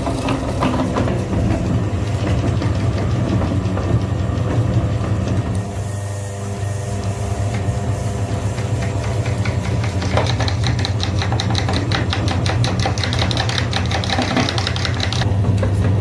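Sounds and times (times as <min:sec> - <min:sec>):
grinder motor humming: 0:00.0 - 0:16.0.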